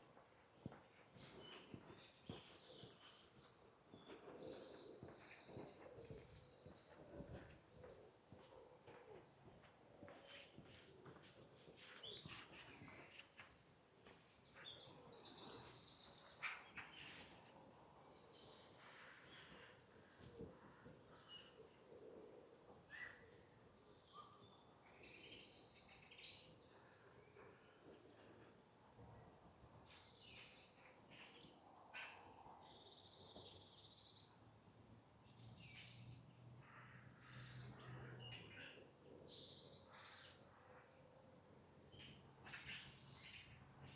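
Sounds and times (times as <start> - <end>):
faint birdsong chirps and trills: 0.0 - 43.9
faint outdoor background noise: 0.0 - 43.9.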